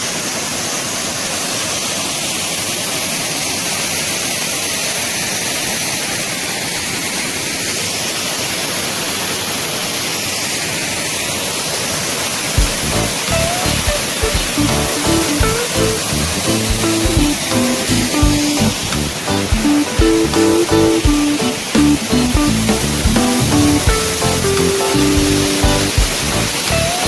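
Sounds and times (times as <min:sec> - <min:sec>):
waterfall splashing: 0:00.0 - 0:27.0.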